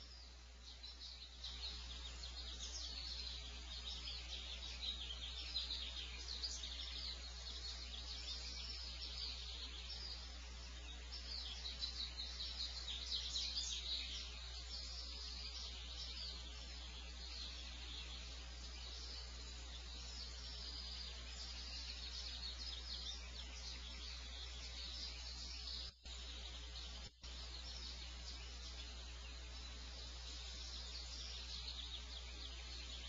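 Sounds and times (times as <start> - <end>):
low electrical hum: 0.0 - 33.0
small birds chirping: 0.0 - 33.0.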